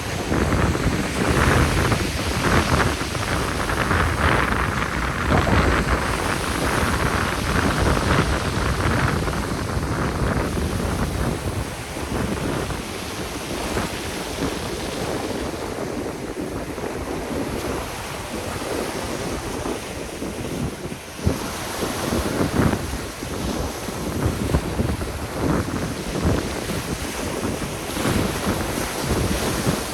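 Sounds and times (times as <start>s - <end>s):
sea waves breaking on shore: 0.0s - 29.9s
wind buffeting microphone: 0.0s - 29.9s.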